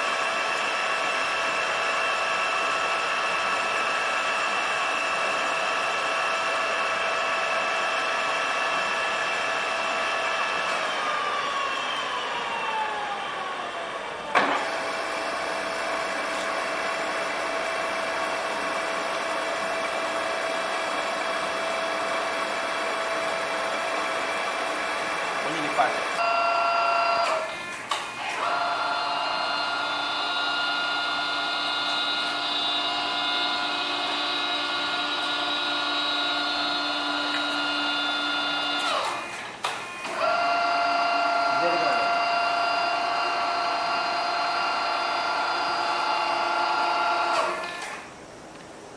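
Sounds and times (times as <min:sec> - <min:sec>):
drilling machine whine: 0:00.0 - 0:48.2.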